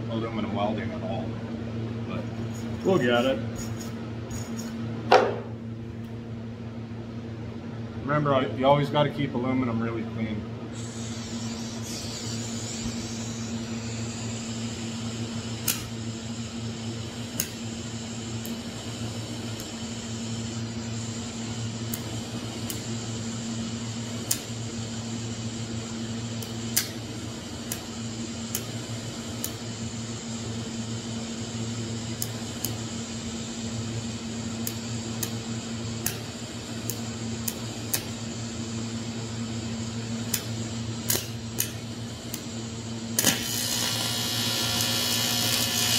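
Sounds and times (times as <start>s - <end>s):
welding arc buzzing and ticking: 2.4s - 4.8s, 10.8s - 45.9s.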